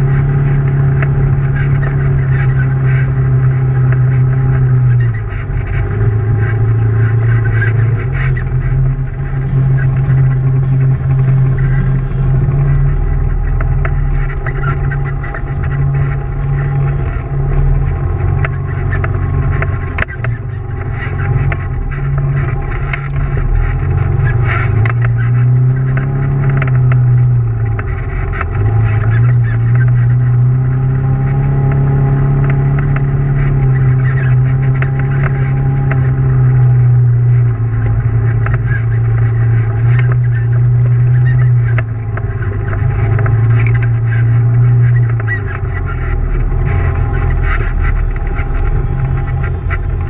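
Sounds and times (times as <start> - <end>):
utv engine running: 0.0 - 50.0.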